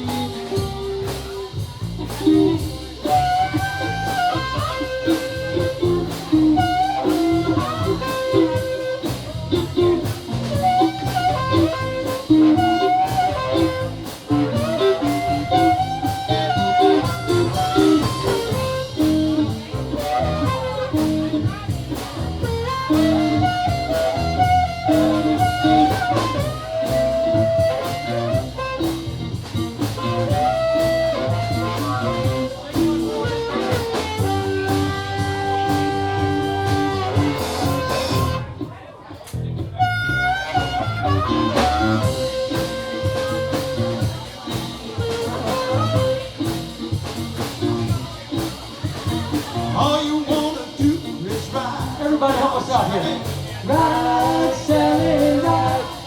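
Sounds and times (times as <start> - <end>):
lead melody: 0.0 - 38.8, 39.4 - 56.0
bass: 0.0 - 56.0
electric guitar: 0.0 - 56.0
steady drum beat: 0.0 - 56.0.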